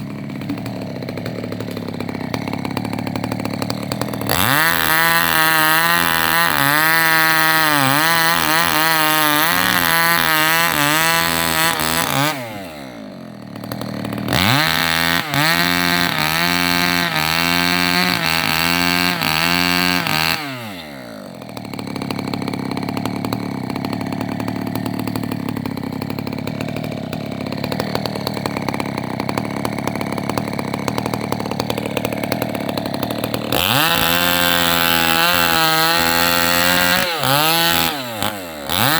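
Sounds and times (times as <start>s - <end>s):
chainsaw cutting and idling: 0.0s - 38.9s.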